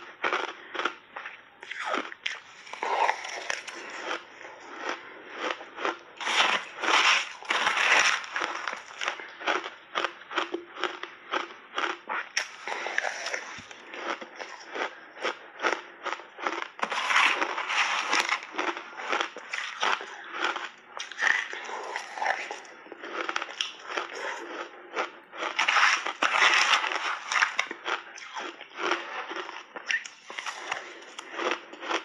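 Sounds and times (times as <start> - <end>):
crunching shaved ice: 0.0 - 32.0.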